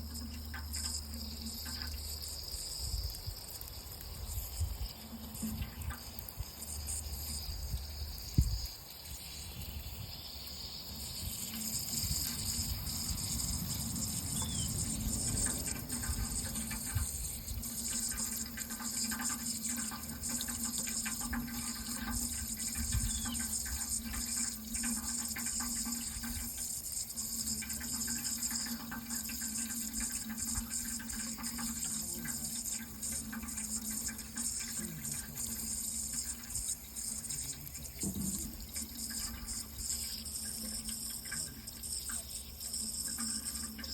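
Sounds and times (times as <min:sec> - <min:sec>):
faint steady hum: 0:00.0 - 0:43.9
water running: 0:00.0 - 0:43.9.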